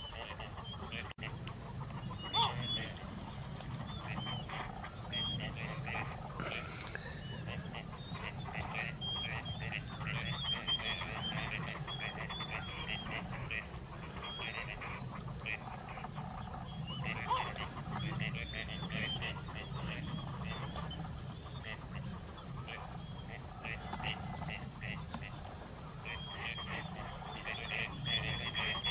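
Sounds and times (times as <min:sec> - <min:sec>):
duck calls: 0:00.0 - 0:28.9.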